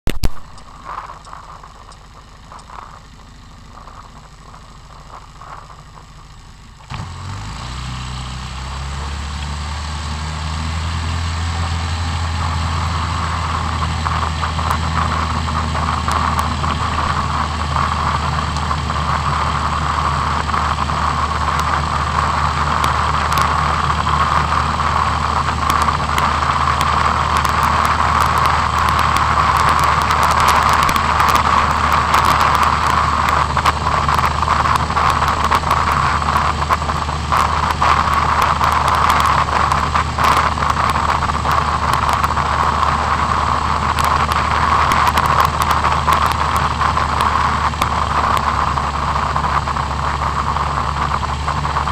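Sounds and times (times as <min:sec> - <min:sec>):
quad bike engine running: 0:00.1 - 0:51.9.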